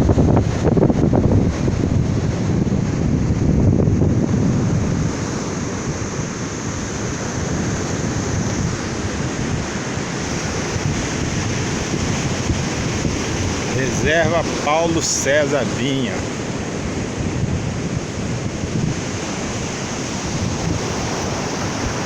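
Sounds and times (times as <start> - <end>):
waves breaking on beach: 0.0 - 22.0
wind buffeting microphone: 0.0 - 22.0.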